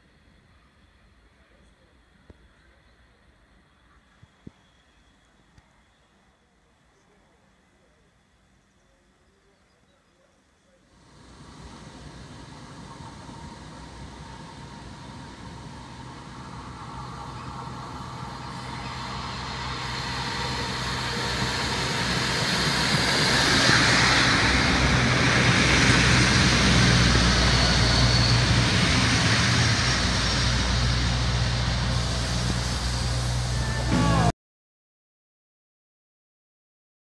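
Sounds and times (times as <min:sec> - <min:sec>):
diesel railcar engine rumble: 0:00.0 - 0:09.6, 0:10.7 - 0:34.3.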